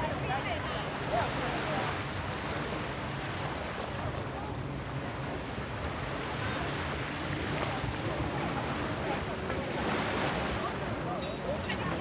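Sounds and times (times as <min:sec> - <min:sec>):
ocean waves on a beach: 0:00.0 - 0:12.0.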